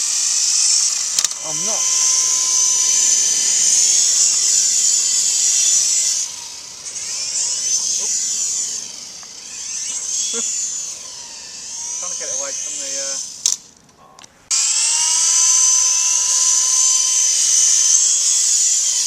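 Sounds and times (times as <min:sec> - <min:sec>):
remote-control helicopter whining: 0:00.0 - 0:19.0.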